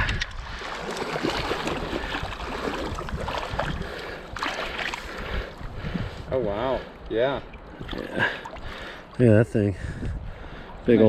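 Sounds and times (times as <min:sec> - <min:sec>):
river water flowing: 0:00.4 - 0:09.7.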